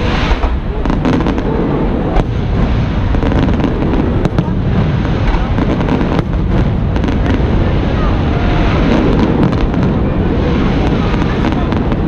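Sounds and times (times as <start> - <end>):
fireworks booming: 0.0 - 12.0
fireworks crackling pops: 0.0 - 12.0.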